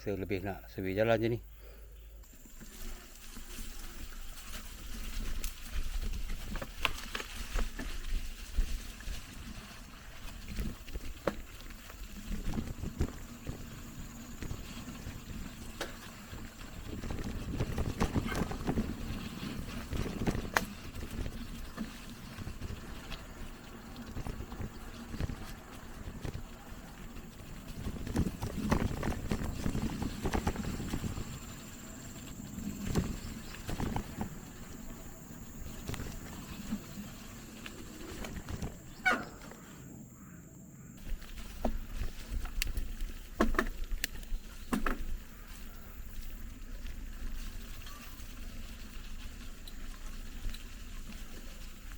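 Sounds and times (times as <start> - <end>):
mountain bike on dirt trail: 1.6 - 51.9.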